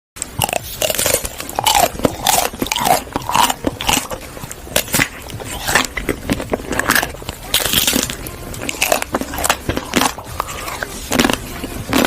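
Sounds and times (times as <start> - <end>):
chewing crunchy food: 0.2 - 12.0.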